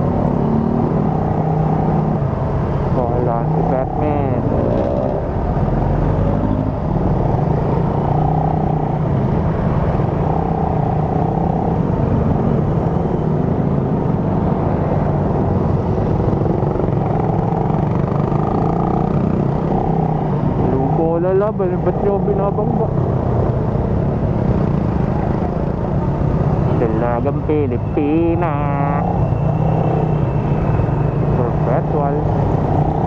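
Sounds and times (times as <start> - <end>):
motorcycle engine humming: 0.0 - 33.0
wind and road noise: 0.0 - 33.0.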